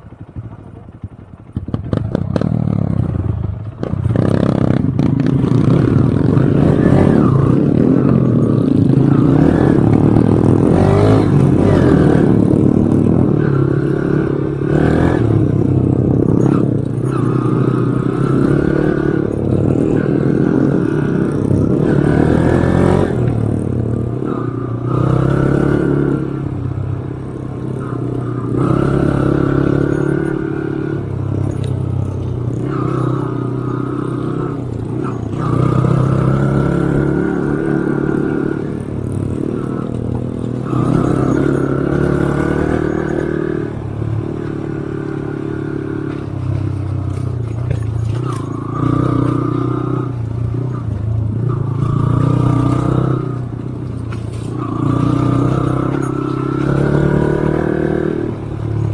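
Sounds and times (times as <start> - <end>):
dirt bike engine revving: 1.6 - 58.9.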